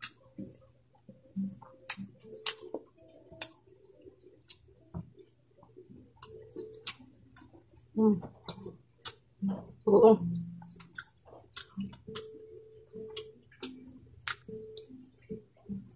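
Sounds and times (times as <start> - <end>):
fingers squishing food: 0.0 - 9.8, 10.6 - 15.9.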